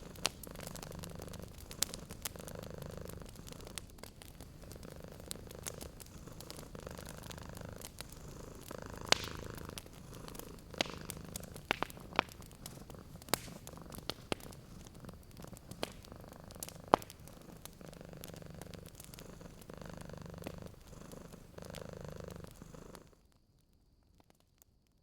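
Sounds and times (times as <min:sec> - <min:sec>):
cat purring: 0:00.0 - 0:23.2
wood fire crackling and popping: 0:00.0 - 0:25.0.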